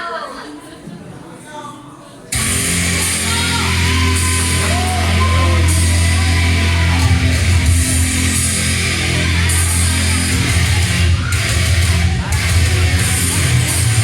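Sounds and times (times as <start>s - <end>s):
heavy rock music: 2.4s - 14.0s.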